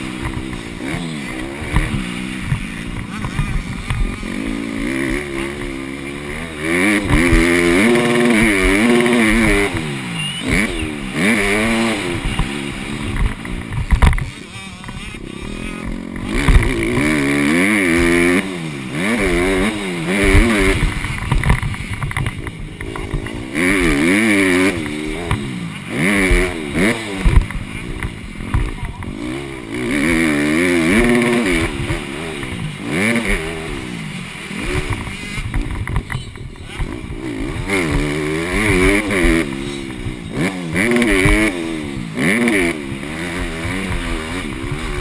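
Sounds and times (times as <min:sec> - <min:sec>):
motocross engine revving: 0:00.0 - 0:45.0.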